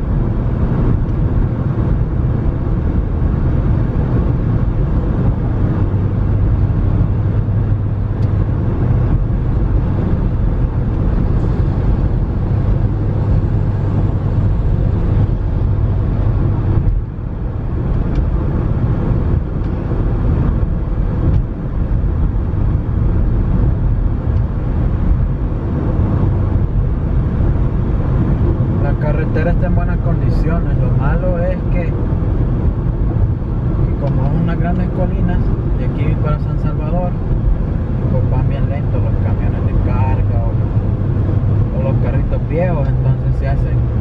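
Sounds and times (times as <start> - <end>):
car engine hum: 0.0 - 44.0
tyre road noise: 0.0 - 44.0.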